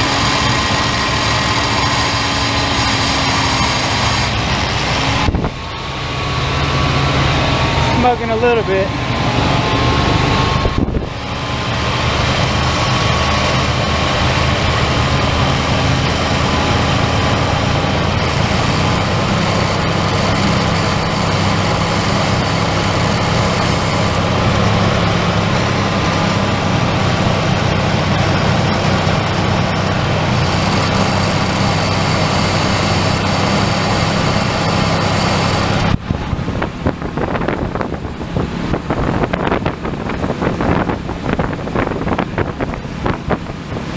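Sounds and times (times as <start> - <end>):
car engine running: 0.0 - 43.9.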